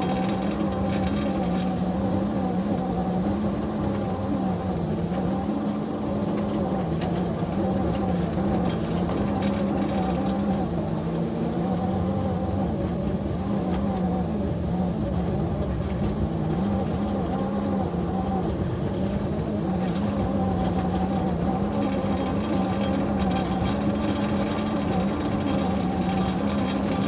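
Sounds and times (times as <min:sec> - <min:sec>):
small locomotive engine running: 0:00.0 - 0:27.0.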